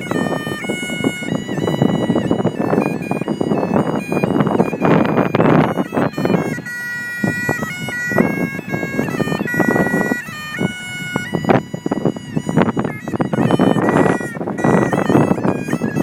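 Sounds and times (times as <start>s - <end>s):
bagpipes playing a melody: 0.0s - 16.0s.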